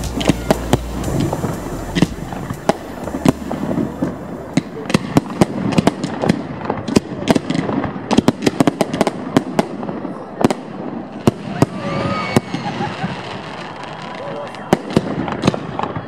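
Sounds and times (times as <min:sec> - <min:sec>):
fireworks bursting with bangs: 0:00.0 - 0:16.0.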